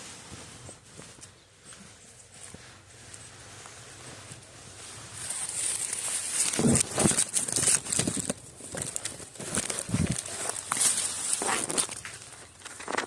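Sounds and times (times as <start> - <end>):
footsteps crunching on dry ground: 0.0 - 13.0.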